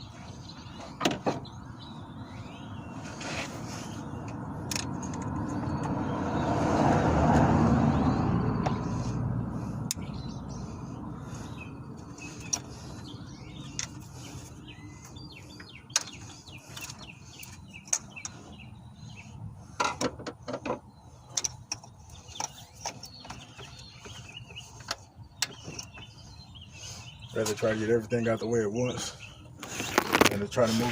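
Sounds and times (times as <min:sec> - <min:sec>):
bird chirps: 0:00.0 - 0:04.4, 0:07.9 - 0:19.8, 0:20.8 - 0:30.9.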